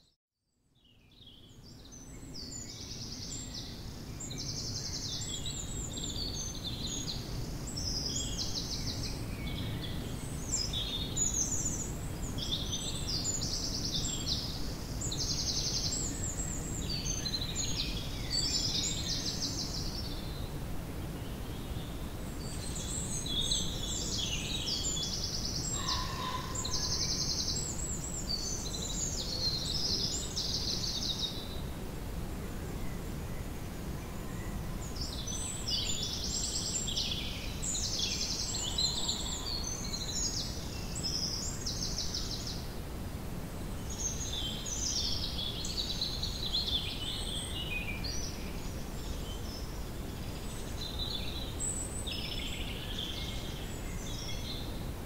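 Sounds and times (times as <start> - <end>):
songbirds chirping and trilling: 0.8 - 55.0.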